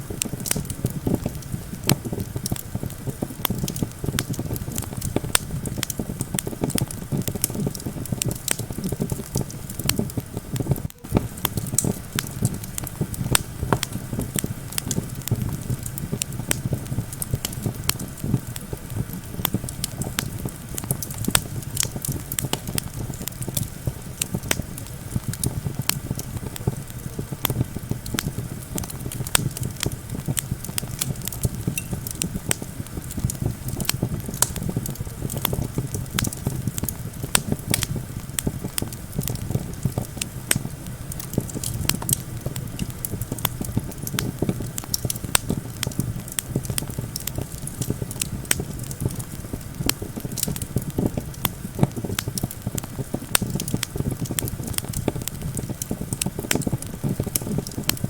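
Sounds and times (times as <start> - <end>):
low wind rumble: 0.0 - 58.0
wood fire crackling: 0.0 - 58.0.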